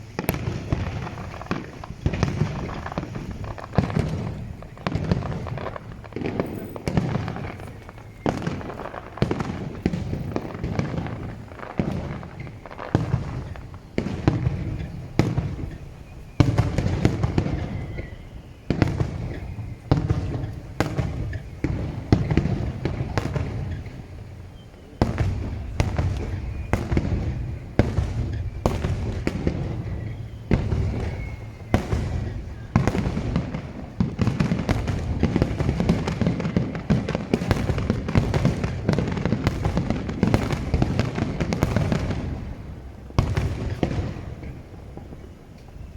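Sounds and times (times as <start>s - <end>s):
firework shells bursting: 0.0s - 45.9s.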